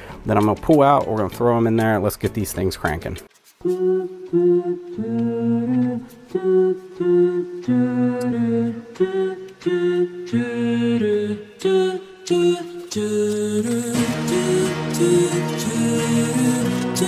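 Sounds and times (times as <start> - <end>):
background music melody: 0.0 - 17.0.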